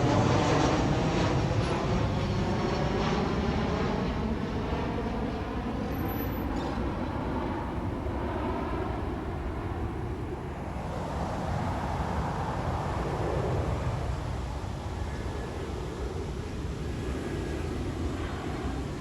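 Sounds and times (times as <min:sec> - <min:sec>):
jet engine rumble and roar: 0:00.0 - 0:19.0.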